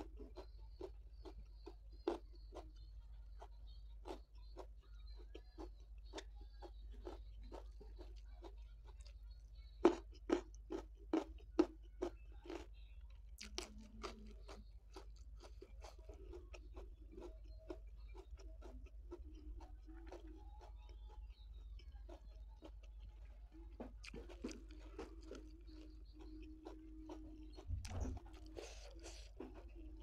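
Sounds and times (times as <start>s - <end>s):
crunching raw vegetables: 0.0s - 30.0s.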